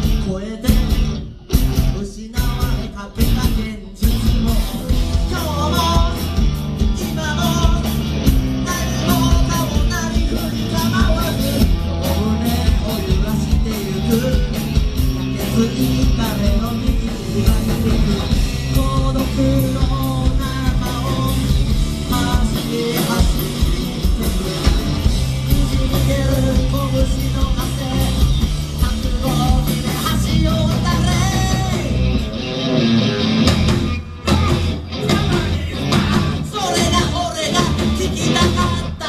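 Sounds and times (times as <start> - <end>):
bass guitar: 0.0 - 39.0
drums keeping a steady beat: 0.0 - 39.0
electric guitars: 0.0 - 39.0
singer's vocals: 0.0 - 39.0.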